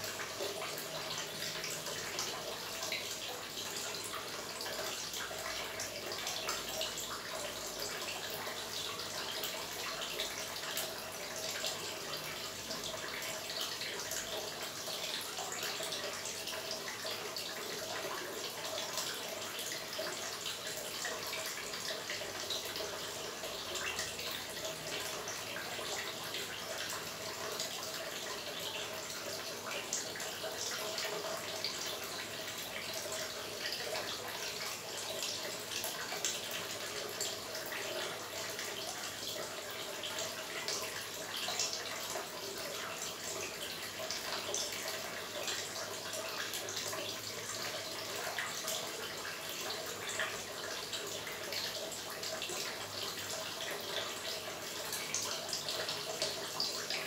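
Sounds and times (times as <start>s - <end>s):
water trickling into pond: 0.0s - 57.0s.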